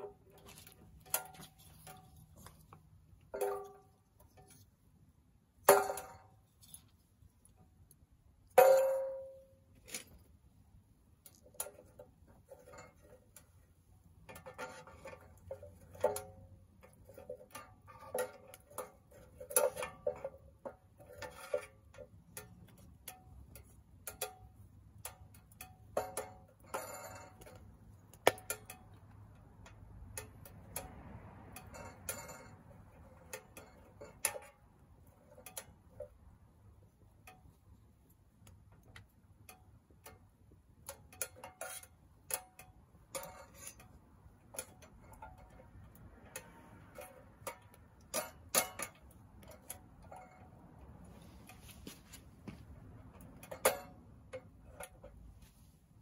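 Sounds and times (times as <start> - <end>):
metal stove ticking and cracking: 0.0 - 51.6, 52.3 - 55.4.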